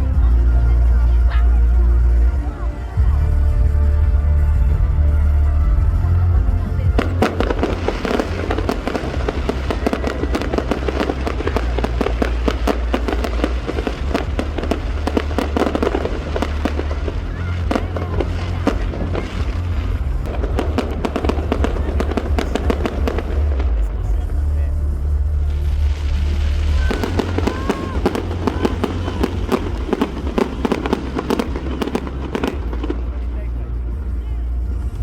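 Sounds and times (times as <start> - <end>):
music playing: 0.0 - 35.0
fireworks crackling and popping: 2.1 - 35.0.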